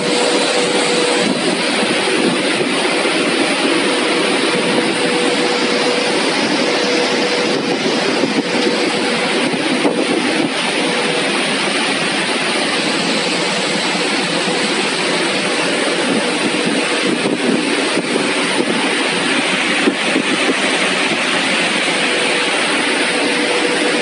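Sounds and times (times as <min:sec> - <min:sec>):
loud rush of fans: 0:00.0 - 0:24.0.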